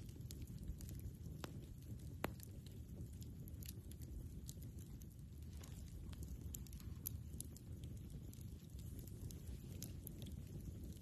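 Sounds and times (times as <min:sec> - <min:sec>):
campfire wood crackling: 0:00.0 - 0:11.0.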